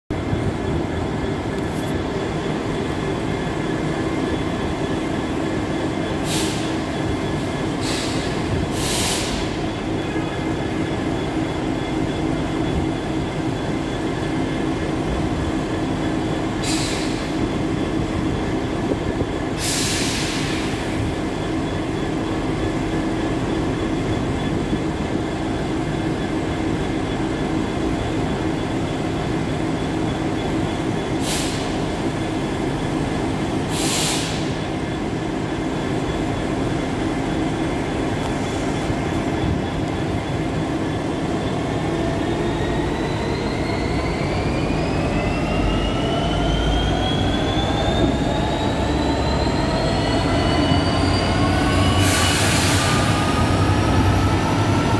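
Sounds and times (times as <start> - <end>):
diesel locomotive engine droning: 0.1 - 54.9.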